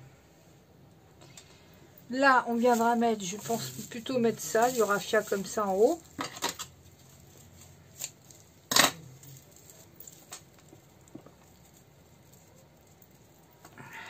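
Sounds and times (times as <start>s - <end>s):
raffia and fabric rustling: 1.6s - 14.0s.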